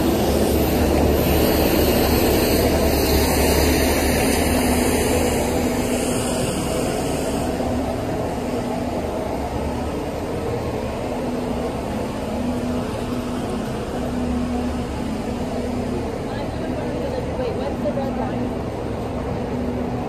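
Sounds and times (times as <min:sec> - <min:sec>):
city street traffic rumble: 0:00.0 - 0:20.0.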